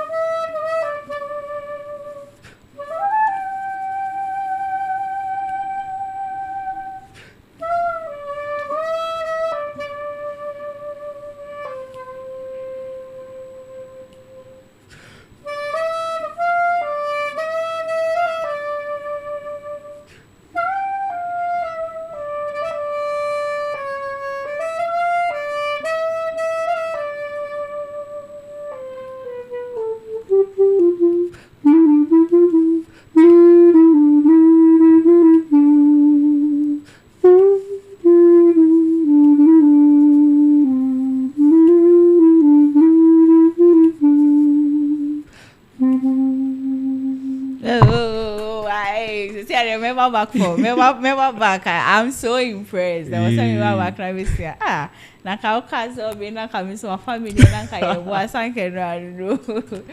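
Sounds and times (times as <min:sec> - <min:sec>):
solo clarinet melody: 0:00.0 - 0:14.8, 0:15.4 - 0:50.9, 0:53.1 - 0:54.0.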